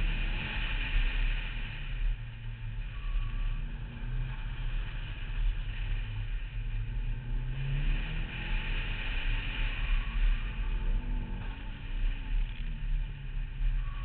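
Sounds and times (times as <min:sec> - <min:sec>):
car engine revving: 0:00.0 - 0:14.0
wind and tyre noise: 0:00.0 - 0:14.0.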